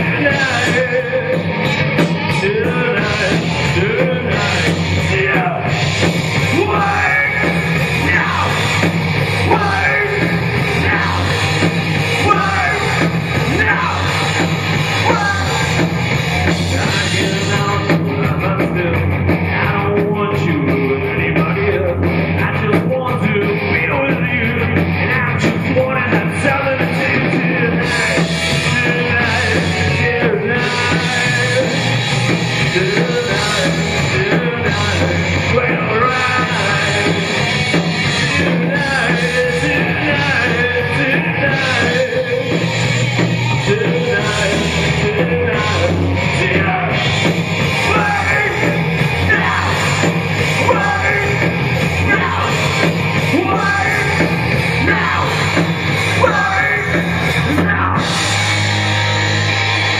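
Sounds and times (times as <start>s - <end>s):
man singing: 0.0s - 58.3s
live punk rock band: 0.0s - 59.9s.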